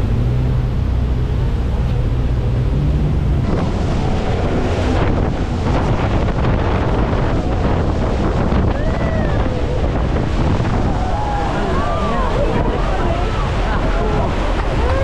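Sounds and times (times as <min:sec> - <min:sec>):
boat engine humming: 0:00.0 - 0:15.0
water rushing: 0:00.0 - 0:15.0
wind rushing over microphone: 0:00.0 - 0:15.0.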